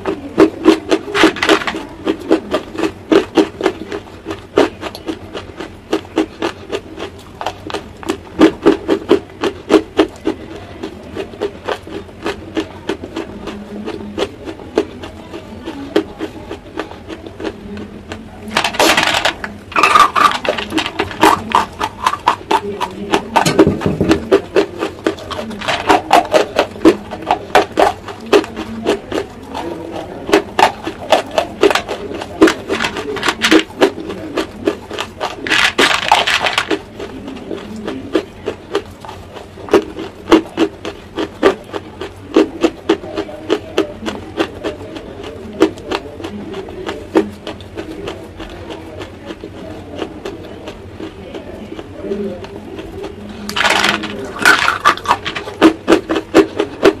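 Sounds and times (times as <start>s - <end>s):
crisp crunching chewing: 0.0s - 57.0s.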